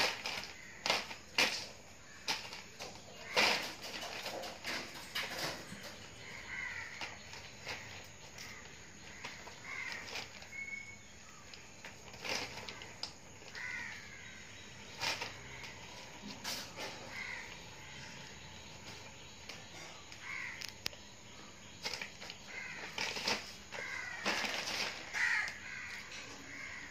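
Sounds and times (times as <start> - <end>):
plastic sack crinkling: 0.0 - 18.0, 21.8 - 26.8.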